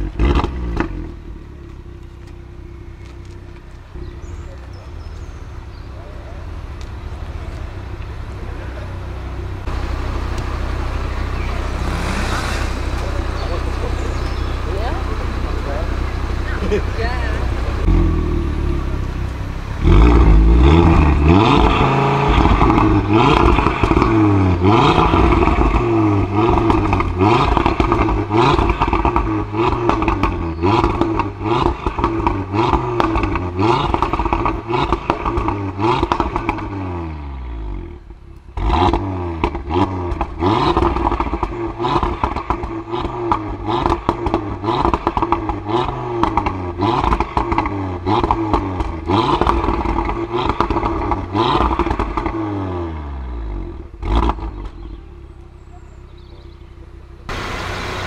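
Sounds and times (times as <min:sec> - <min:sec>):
car engine revving: 0:00.0 - 0:58.0
exhaust crackling: 0:00.0 - 0:58.0.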